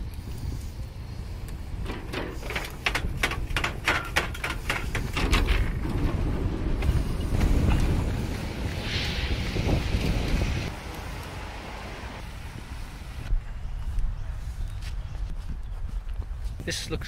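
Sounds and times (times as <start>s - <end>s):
rumble of wind and tyres: 0.0s - 17.0s.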